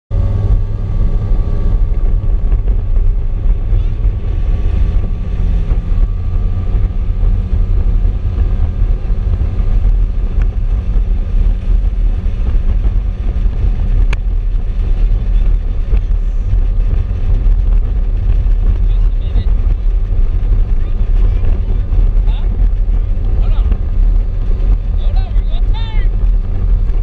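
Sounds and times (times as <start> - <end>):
boat motor droning: 0.1 - 27.0
wind buffeting microphone: 0.1 - 27.0.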